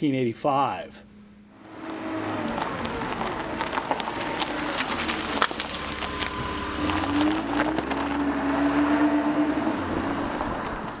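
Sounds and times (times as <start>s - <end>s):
engine running: 1.0s - 11.0s.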